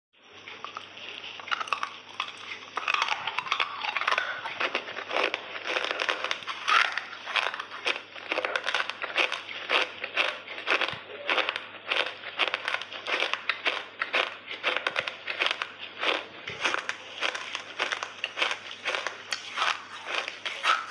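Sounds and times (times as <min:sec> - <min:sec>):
wet clicky chewing: 0:00.5 - 0:20.9.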